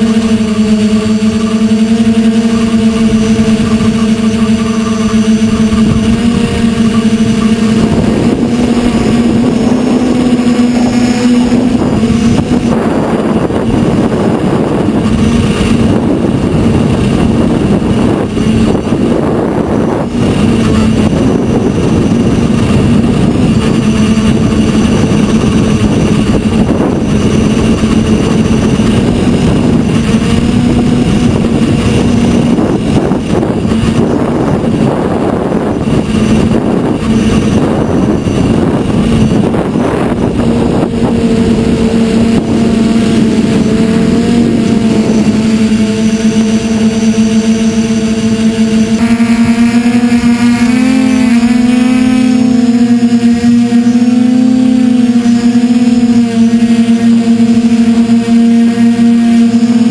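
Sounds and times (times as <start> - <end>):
drone propellers buzzing: 0.0 - 59.9
wind noise: 0.0 - 59.9.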